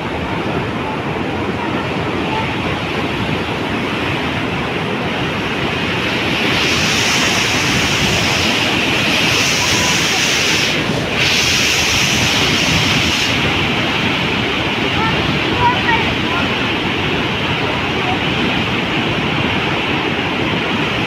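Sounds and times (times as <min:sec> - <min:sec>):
water rushing: 0:00.0 - 0:21.0.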